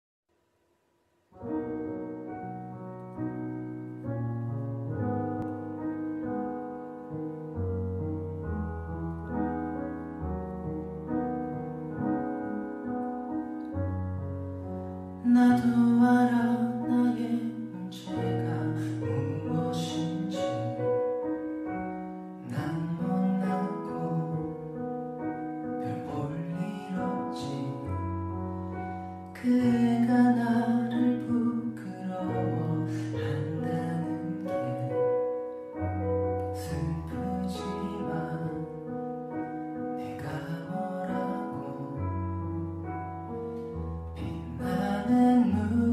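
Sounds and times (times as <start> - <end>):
slow piano ballad: 1.3 - 45.9.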